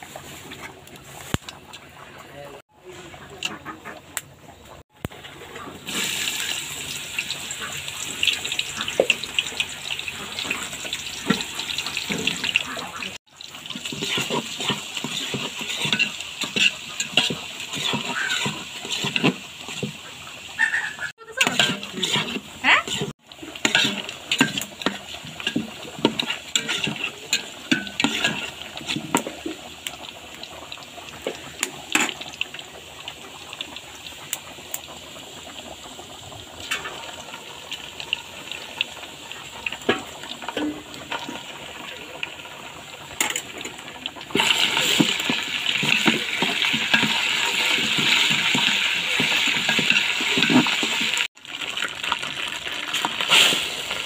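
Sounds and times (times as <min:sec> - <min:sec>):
bubbling liquid hiss: 0:05.8 - 0:54.0.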